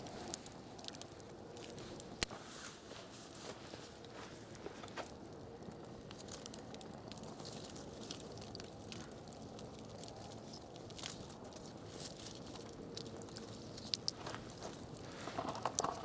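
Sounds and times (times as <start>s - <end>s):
campfire crackling and popping: 0.0s - 2.4s, 3.7s - 16.0s.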